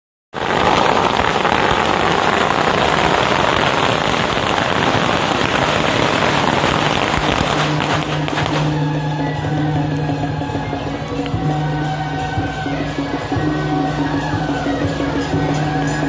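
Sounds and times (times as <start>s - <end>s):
firecrackers crackling: 0.3s - 16.0s.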